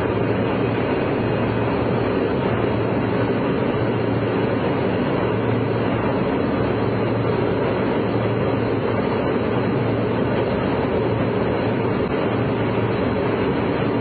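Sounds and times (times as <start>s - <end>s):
airplane cabin engine rush: 0.0s - 14.0s
constant low hum: 0.0s - 14.0s.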